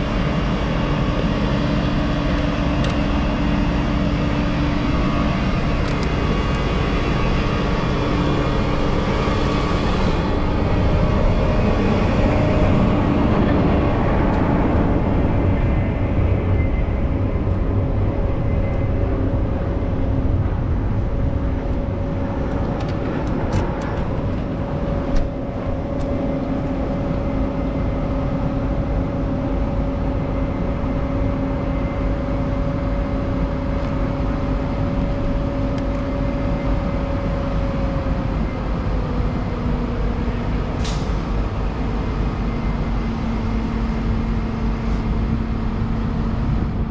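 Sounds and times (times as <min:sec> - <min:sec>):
vehicle rumble: 0:00.0 - 0:46.9.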